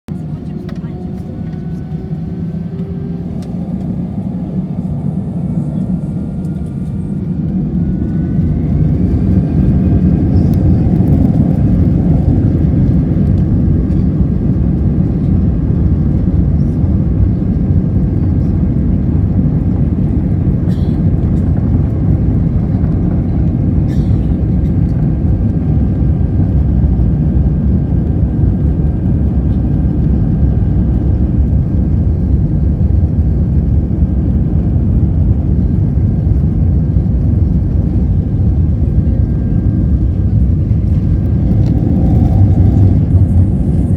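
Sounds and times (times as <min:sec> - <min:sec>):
airliner engines spooling up: 0:00.1 - 0:43.9.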